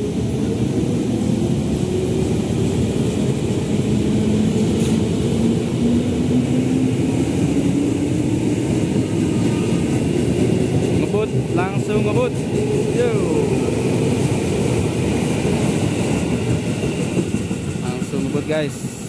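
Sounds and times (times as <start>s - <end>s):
electric train wheels rumbling: 0.0s - 19.0s.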